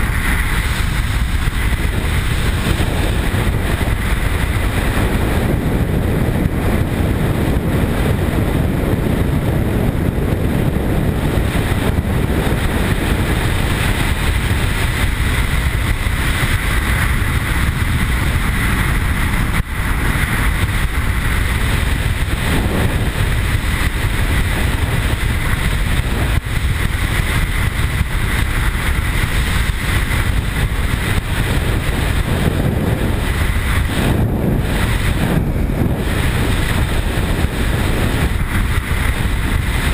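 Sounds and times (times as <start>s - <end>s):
motorcycle engine drone: 0.0s - 39.9s
road noise: 0.0s - 39.9s
wind rush: 0.0s - 39.9s.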